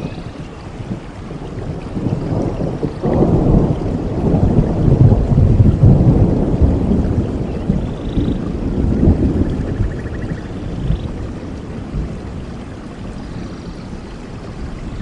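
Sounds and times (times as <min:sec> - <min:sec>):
rain falling in a forest: 0:00.0 - 0:15.0
rolling thunder rumble: 0:00.0 - 0:15.0.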